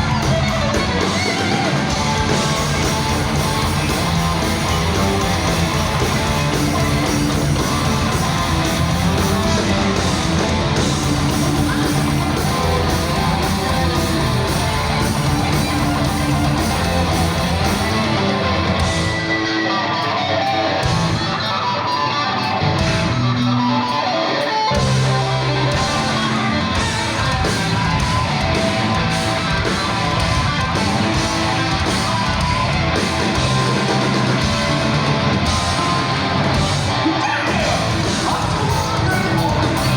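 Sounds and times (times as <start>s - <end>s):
bass: 0.0s - 39.9s
drums: 0.0s - 39.9s
electric guitars: 0.0s - 39.9s.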